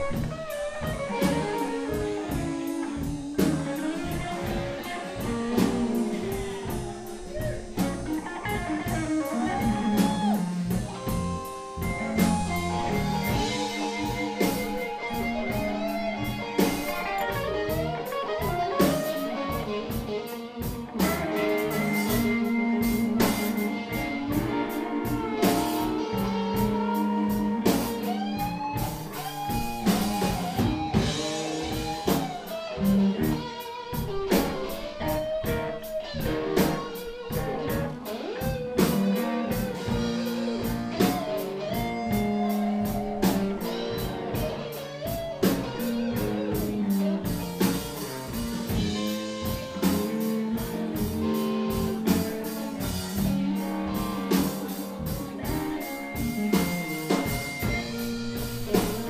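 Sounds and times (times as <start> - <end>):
bass guitar: 0.0 - 59.0
drum kit steady beat: 0.0 - 59.0
electric guitar lead: 0.0 - 59.0.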